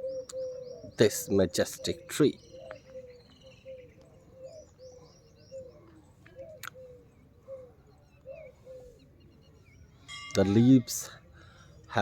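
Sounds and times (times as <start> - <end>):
dove cooing faintly: 0.0 - 12.0
small birds chirping faintly: 0.0 - 12.0.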